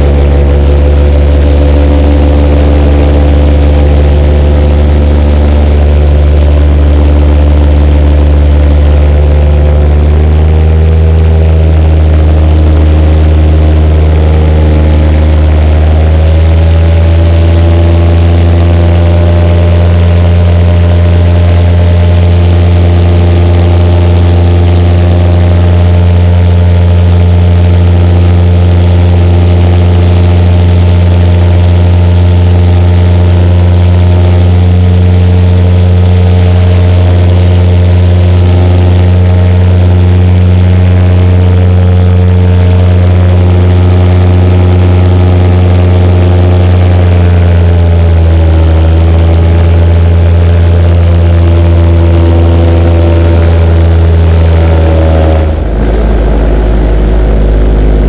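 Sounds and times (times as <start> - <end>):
paramotor engine droning: 0.0 - 58.0.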